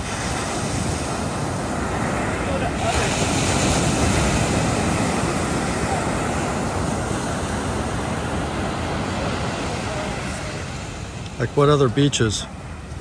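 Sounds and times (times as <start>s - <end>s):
ocean surf rushing: 0.0s - 13.0s
wind buffeting microphone: 0.0s - 13.0s.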